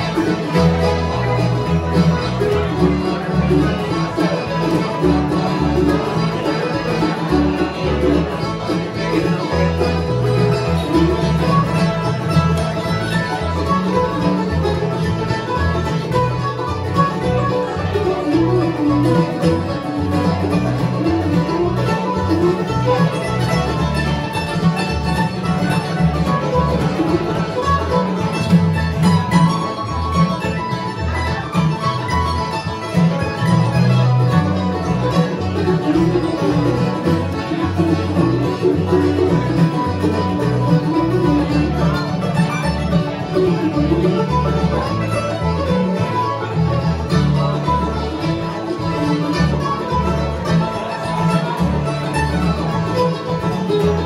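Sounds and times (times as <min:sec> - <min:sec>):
acoustic guitar: 0:00.0 - 0:54.0
banjo: 0:00.0 - 0:54.0
mandolin: 0:00.0 - 0:54.0
upright bass: 0:00.0 - 0:54.0.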